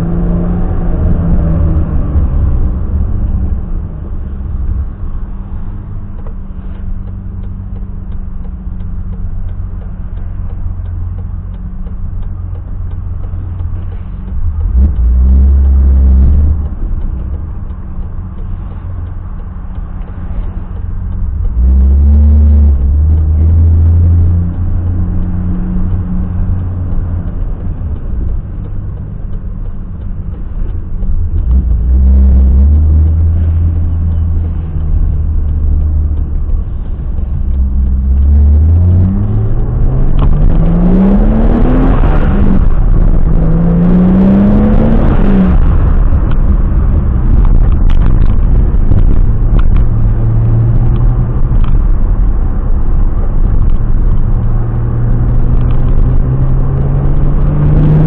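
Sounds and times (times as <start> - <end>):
car engine accelerating: 0.0 - 58.0
gear change: 0.0 - 58.0.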